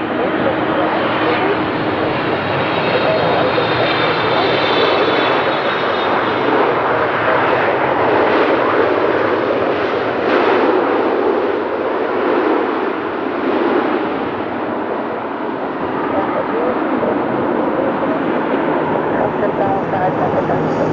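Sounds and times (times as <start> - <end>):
high engine whine: 0.0 - 20.9
jet engines rushing past: 0.0 - 20.9.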